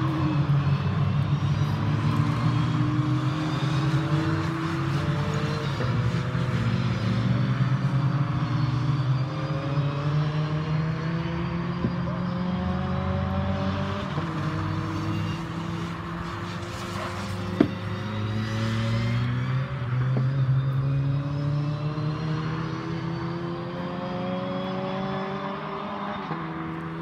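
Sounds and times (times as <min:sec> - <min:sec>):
race car engines: 0:00.0 - 0:27.0.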